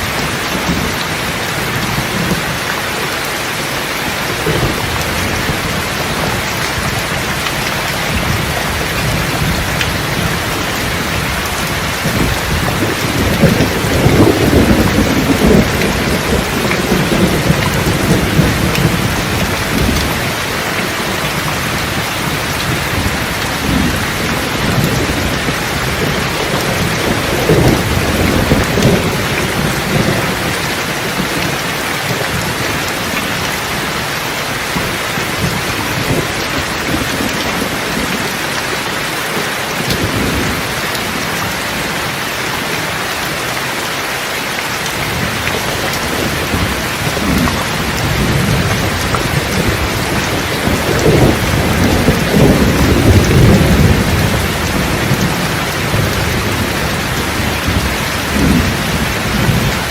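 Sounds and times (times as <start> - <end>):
thunder rumbling: 0.0 - 39.0, 39.7 - 43.0, 44.8 - 59.9
steady rain: 0.0 - 59.9.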